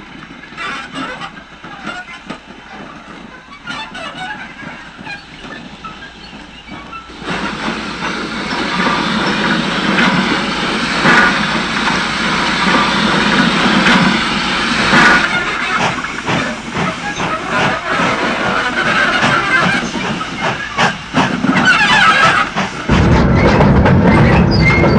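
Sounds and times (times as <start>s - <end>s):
steam locomotive puffs: 0.1s - 24.9s
steam hissing: 4.6s - 24.9s.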